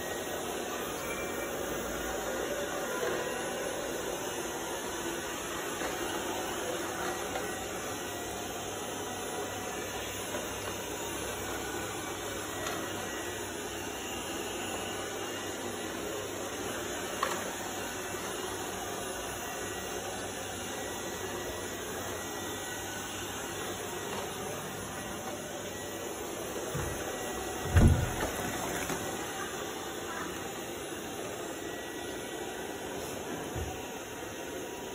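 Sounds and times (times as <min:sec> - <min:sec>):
robot vacuum whirring: 0:00.0 - 0:34.9.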